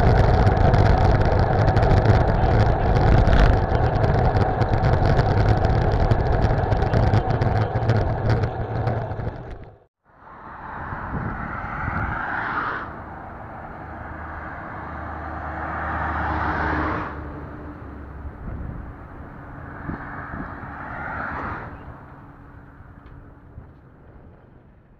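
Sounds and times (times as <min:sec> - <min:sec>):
low engine rumble: 0:00.0 - 0:24.9
vehicles passing on motorway: 0:00.0 - 0:24.9.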